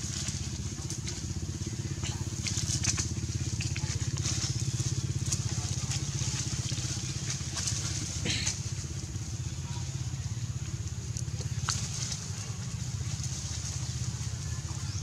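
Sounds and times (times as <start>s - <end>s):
leaves rustling and crackling: 0.0s - 15.0s
low pulsing hum: 0.0s - 15.0s.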